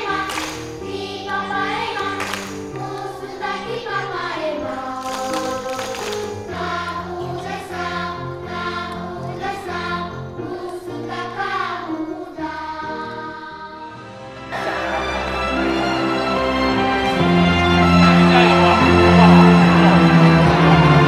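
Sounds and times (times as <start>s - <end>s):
background music: 0.0s - 21.0s
children's choir singing: 0.0s - 21.0s
music backing track: 0.0s - 21.0s.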